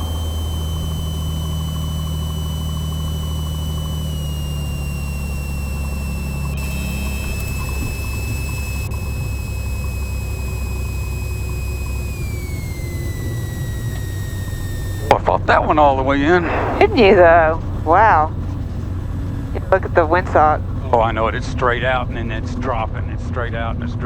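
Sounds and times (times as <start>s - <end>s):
aircraft engine and propeller droning: 0.0s - 24.0s.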